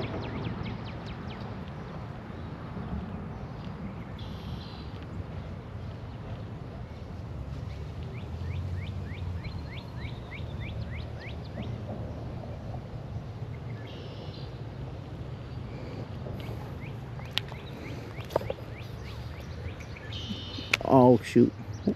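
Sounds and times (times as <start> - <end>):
steady low rumble: 0.0 - 20.9.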